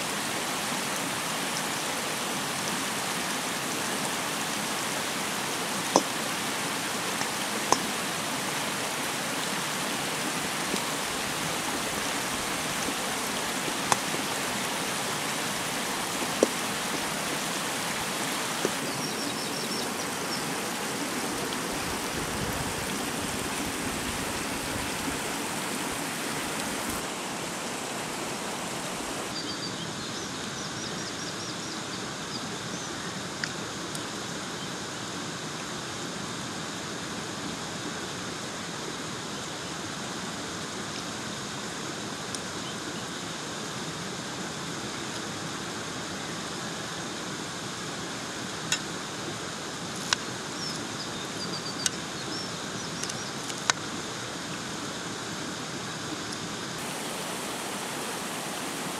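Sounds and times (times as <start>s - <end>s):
rushing outdoor background noise: 0.0s - 58.9s.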